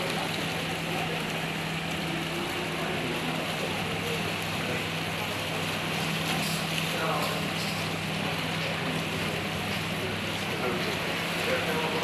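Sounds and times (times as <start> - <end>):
faint voices: 0.0 - 12.0
water rushing: 0.0 - 12.0.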